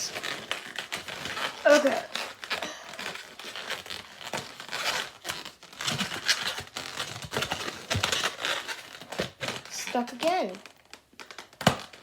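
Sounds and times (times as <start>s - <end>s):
rubber balloon rubbing and crinkling: 0.0s - 12.0s.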